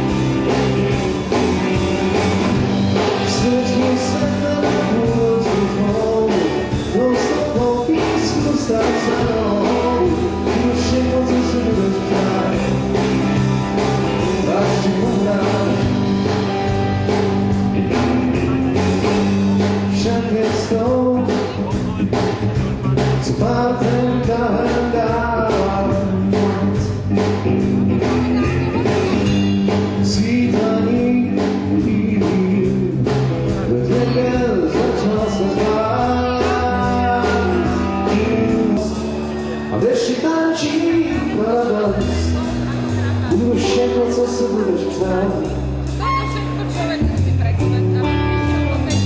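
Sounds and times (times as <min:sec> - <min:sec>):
drum kit: 0:00.0 - 0:49.0
electric guitars: 0:00.0 - 0:49.0
male singer vocal: 0:03.0 - 0:13.2, 0:14.1 - 0:16.4, 0:17.8 - 0:27.3, 0:28.0 - 0:49.0.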